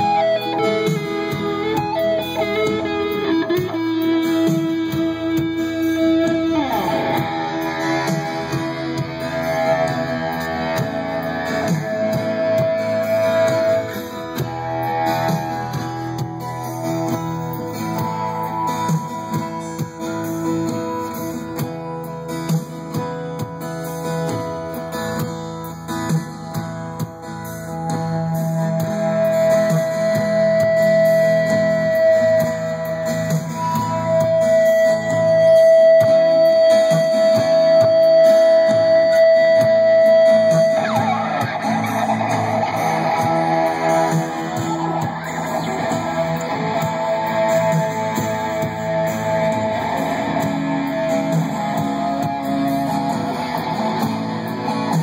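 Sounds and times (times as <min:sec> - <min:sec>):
acoustic guitar strumming chords: 0:00.0 - 0:55.0
electric lead guitar: 0:00.0 - 0:55.0.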